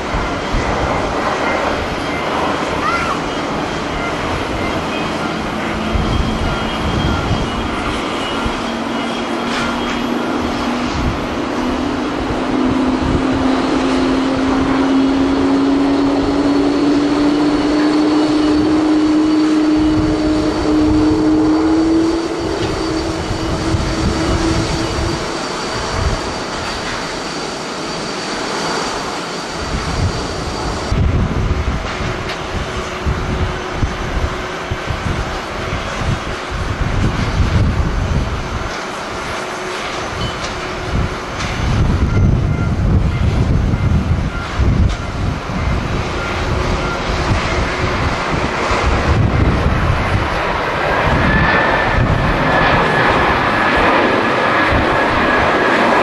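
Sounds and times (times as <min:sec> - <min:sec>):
wind buffeting microphone: 0:00.0 - 0:27.3, 0:29.5 - 0:56.0
jet engines humming: 0:00.0 - 0:56.0.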